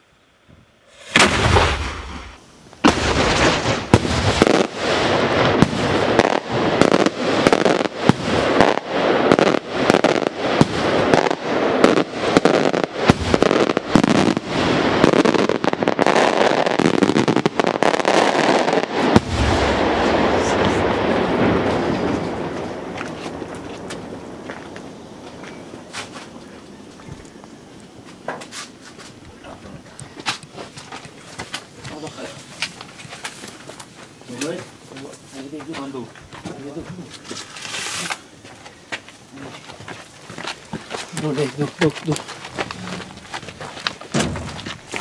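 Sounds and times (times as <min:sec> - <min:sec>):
fireworks bangs and crackling: 0:00.4 - 0:45.0.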